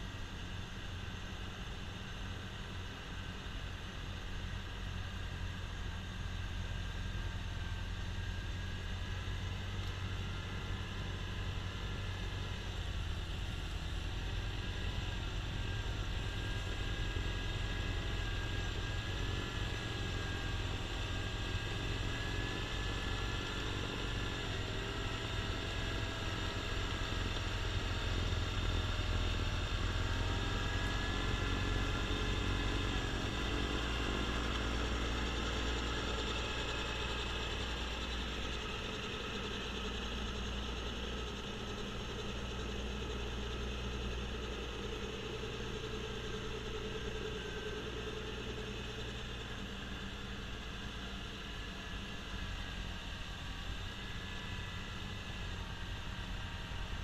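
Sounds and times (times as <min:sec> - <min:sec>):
tractor diesel engine running: 0:04.0 - 0:57.0.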